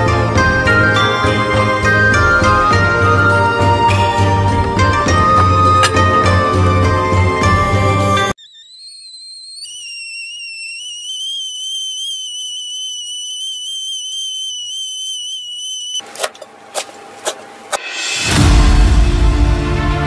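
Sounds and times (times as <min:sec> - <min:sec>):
kettle whistling: 0:00.6 - 0:17.8.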